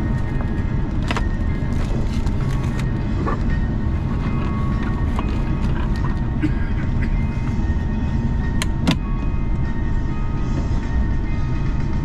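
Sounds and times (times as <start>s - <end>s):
airplane taxiing rumble: 0.0s - 12.0s.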